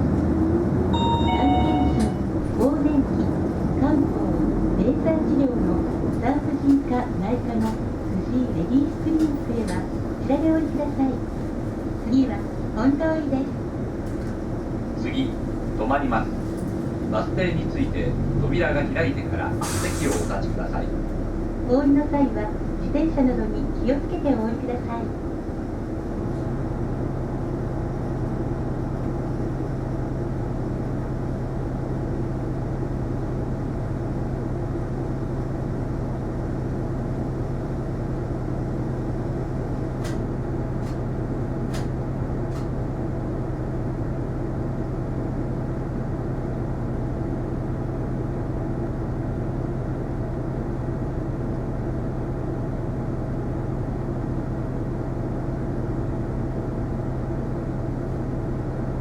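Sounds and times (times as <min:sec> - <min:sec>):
bus engine low hum: 0:00.0 - 0:59.0.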